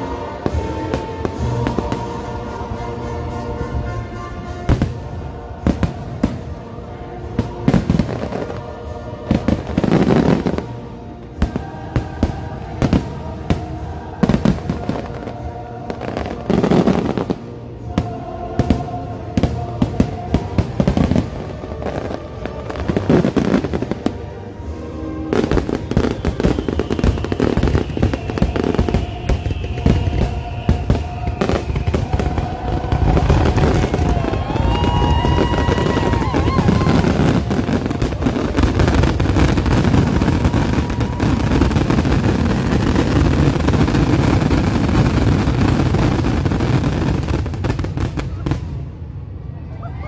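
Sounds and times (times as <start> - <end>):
fireworks bangs and crackles: 0.0 - 2.8, 4.7 - 49.2
music: 0.0 - 50.0.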